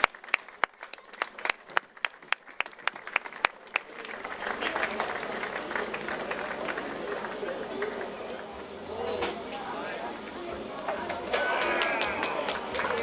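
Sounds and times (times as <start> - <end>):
people clapping: 0.0 - 8.6, 10.8 - 13.0
hum of crowd voices: 0.0 - 13.0.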